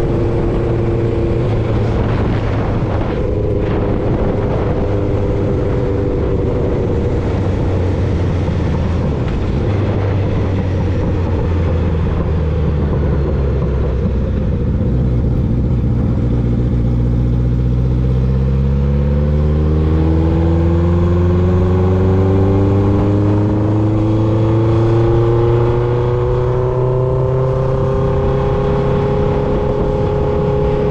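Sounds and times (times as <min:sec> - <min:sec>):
motorcycle engine accelerating: 0:00.0 - 0:30.9
road noise: 0:00.0 - 0:30.9
wind noise: 0:00.0 - 0:30.9.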